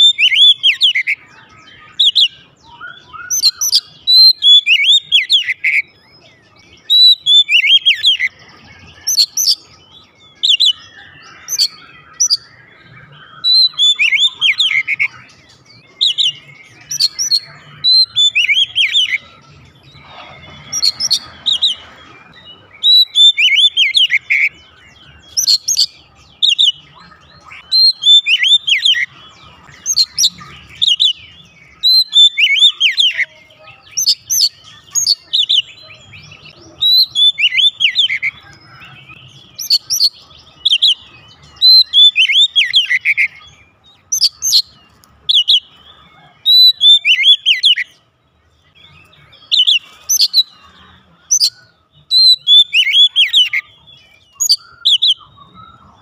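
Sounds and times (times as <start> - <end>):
songbird singing whistles: 0.0 - 33.3, 34.0 - 48.0, 48.7 - 50.6, 51.3 - 56.0.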